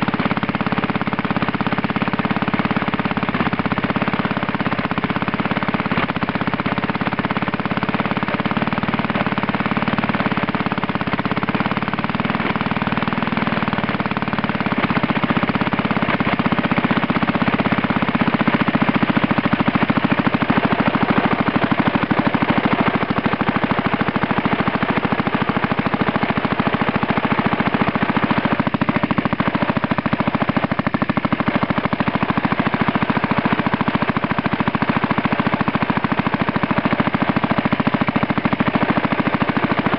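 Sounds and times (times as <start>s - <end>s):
small two-stroke engine popping: 0.0s - 39.9s.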